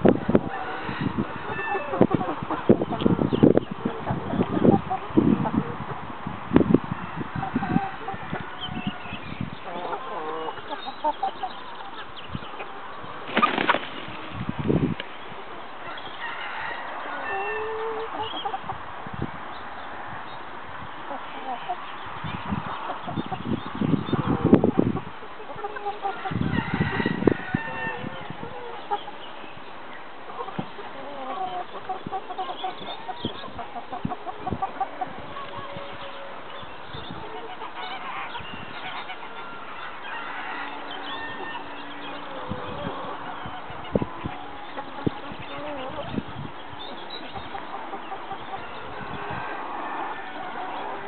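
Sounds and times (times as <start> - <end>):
hens clucking: 0.0 - 51.0.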